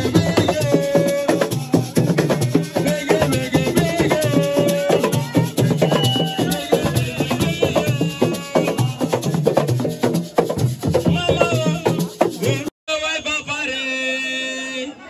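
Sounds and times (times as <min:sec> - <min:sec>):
fast dense drumming: 0:00.0 - 0:12.7
held notes above percussion: 0:00.0 - 0:12.7.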